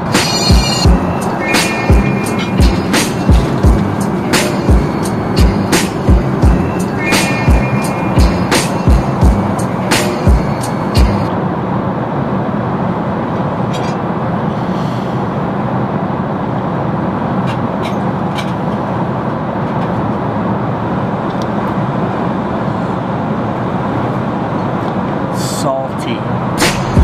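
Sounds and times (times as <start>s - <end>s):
airliner cabin roar: 0.0s - 27.0s.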